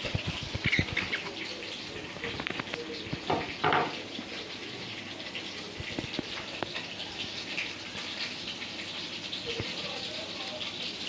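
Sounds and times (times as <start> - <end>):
curry sizzling and bubbling: 0.0 - 11.0.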